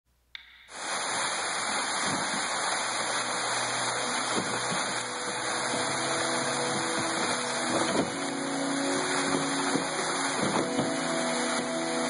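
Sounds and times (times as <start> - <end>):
waterfall splashing into pool: 0.4 - 12.0.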